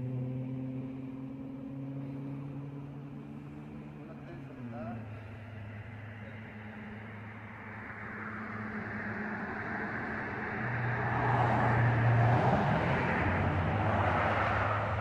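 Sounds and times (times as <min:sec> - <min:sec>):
car passing by: 0:00.0 - 0:15.0.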